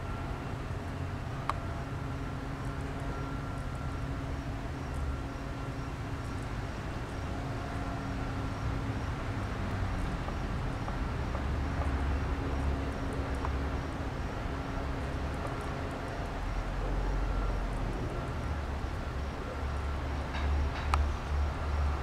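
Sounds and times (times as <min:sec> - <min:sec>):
constant low rumble: 0:00.0 - 0:22.0
faint steady hum: 0:00.0 - 0:22.0.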